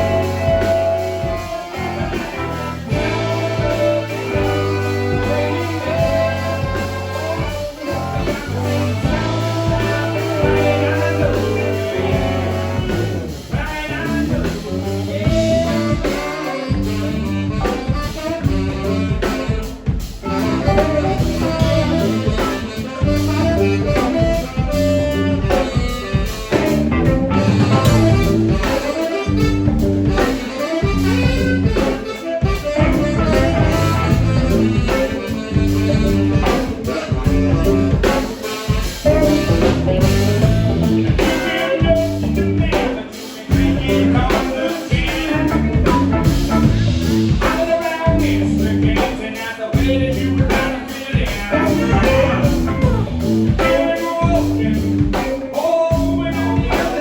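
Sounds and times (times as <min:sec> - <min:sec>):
drums: 0:00.0 - 0:57.0
guitar: 0:00.0 - 0:57.0
live blues band: 0:00.0 - 0:57.0.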